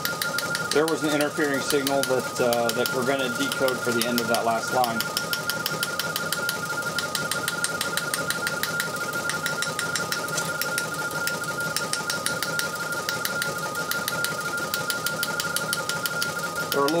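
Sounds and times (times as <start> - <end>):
teleprinter clattering: 0.0 - 17.0.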